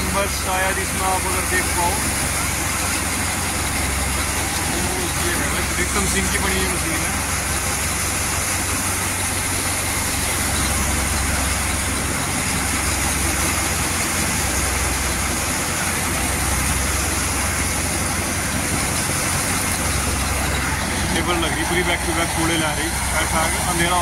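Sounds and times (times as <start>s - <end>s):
thresher machine droning: 0.0s - 24.0s.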